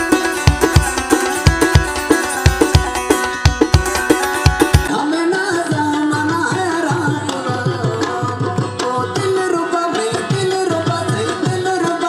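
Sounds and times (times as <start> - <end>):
music with drum beat and melody: 0.0 - 12.0.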